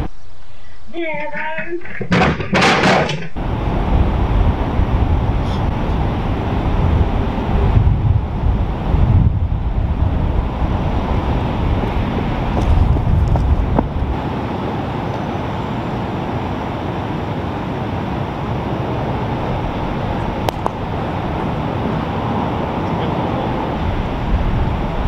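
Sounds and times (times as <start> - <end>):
rumbling outdoor background hiss: 0.0 - 25.0.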